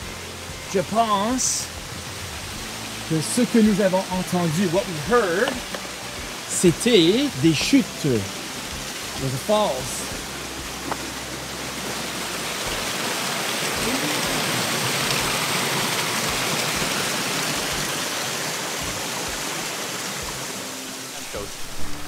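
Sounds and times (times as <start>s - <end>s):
waterfall rushing over rocks: 0.0s - 22.0s.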